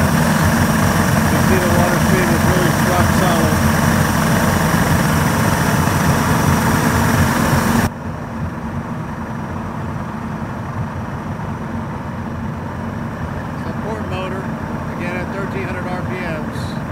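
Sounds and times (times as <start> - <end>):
outboard motors running: 0.0 - 16.9.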